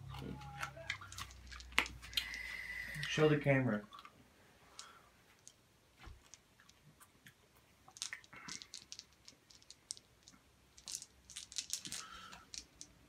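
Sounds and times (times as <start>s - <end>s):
hard candies clicking in hands: 0.0s - 3.2s, 4.7s - 13.0s.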